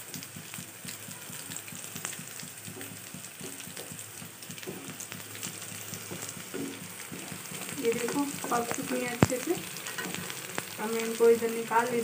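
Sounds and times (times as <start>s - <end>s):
frying in hot oil: 0.0s - 12.0s.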